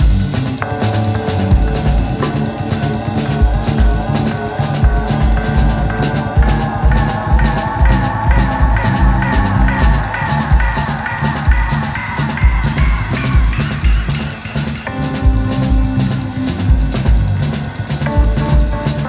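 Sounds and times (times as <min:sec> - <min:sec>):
bass guitar: 0:00.0 - 0:19.0
drum kit beat: 0:00.0 - 0:19.0
guitar: 0:00.0 - 0:19.0
held melody line: 0:00.0 - 0:19.0.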